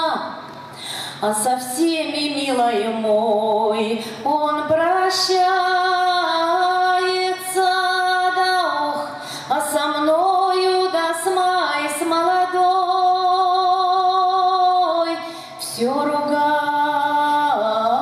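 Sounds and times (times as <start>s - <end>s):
woman singing folk song: 1.2s - 18.0s.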